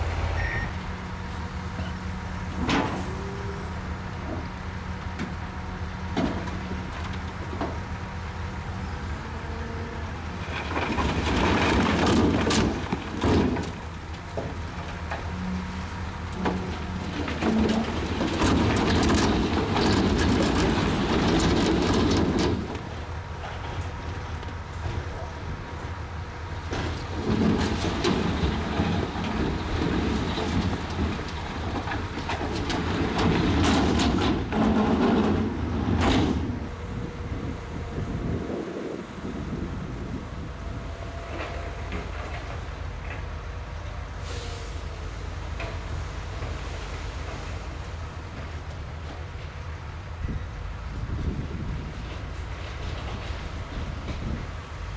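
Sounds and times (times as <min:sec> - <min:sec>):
steel tracks clanking: 0:00.0 - 0:05.5, 0:06.1 - 0:54.9
bulldozer diesel engine running: 0:00.0 - 0:54.9.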